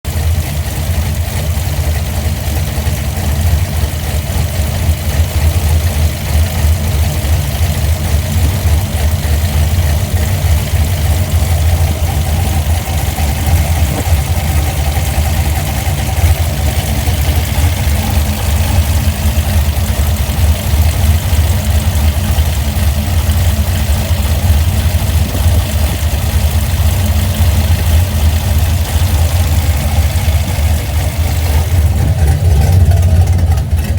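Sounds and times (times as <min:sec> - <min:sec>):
engine idling unevenly: 0:00.0 - 0:33.9.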